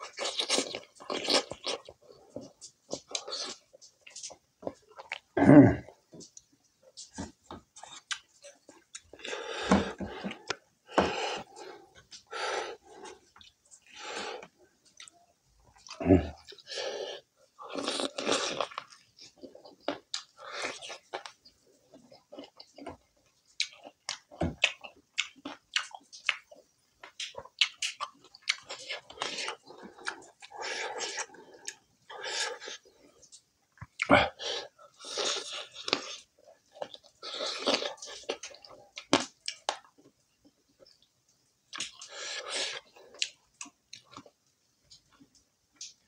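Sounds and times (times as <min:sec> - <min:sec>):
person chewing food: 0:00.0 - 0:46.0.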